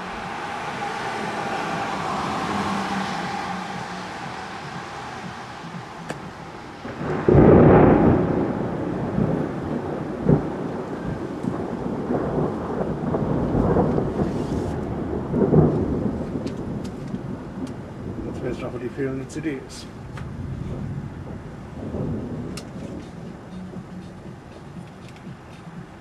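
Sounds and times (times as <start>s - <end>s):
thunder clap and rumble: 0.0s - 26.0s.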